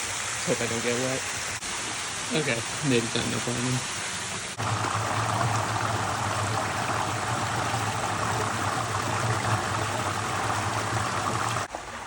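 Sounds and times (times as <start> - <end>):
fast-flowing creek rushing: 0.4 - 12.0.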